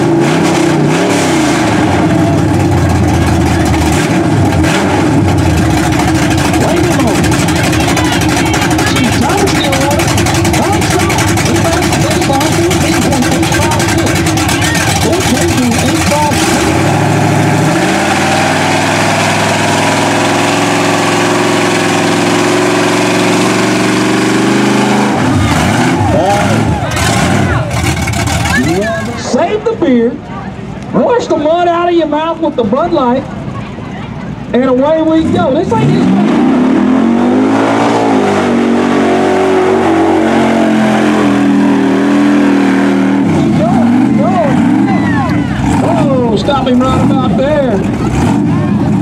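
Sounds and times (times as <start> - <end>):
tyres churning mud: 0.0 - 29.6, 34.6 - 49.0
truck engine under load: 0.0 - 31.6, 32.2 - 49.0.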